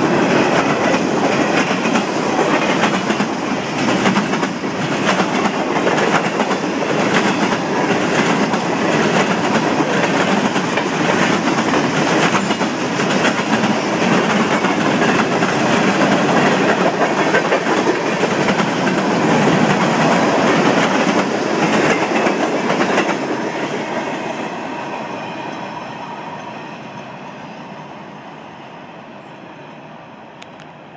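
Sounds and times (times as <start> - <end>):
freight train rolling past: 0.0 - 30.9.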